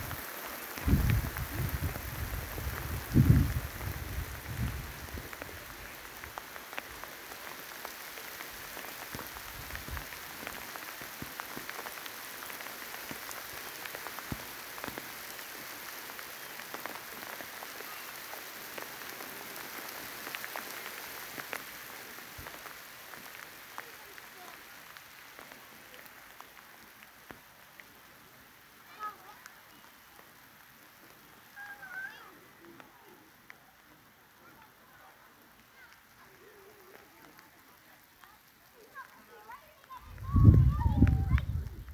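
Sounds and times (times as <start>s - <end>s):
rain hissing: 0.0s - 41.9s
raindrops ticking: 0.0s - 41.9s.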